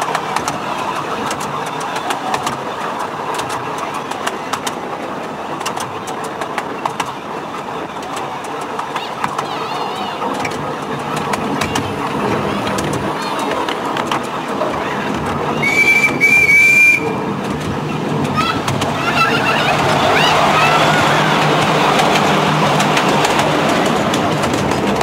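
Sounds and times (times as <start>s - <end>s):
miniature train running: 0.0s - 25.0s
wheels clicking on track: 0.0s - 25.0s.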